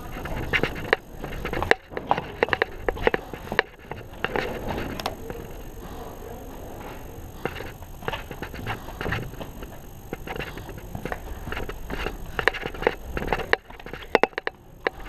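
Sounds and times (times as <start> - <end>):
sharp clicks and knocks: 0.0 - 5.8, 7.2 - 15.0
rustling and shuffling: 0.0 - 15.0.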